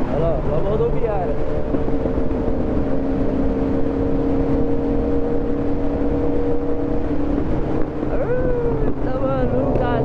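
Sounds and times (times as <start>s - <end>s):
motorcycle engine running: 0.0s - 10.0s
wind rumbling on microphone: 0.0s - 10.0s.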